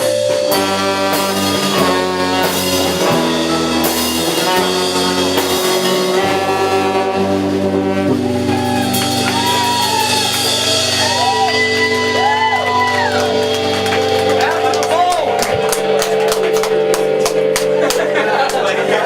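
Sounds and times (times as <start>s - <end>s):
live band playing instrumental: 0.0s - 18.9s
lead line bending notes: 0.0s - 19.0s.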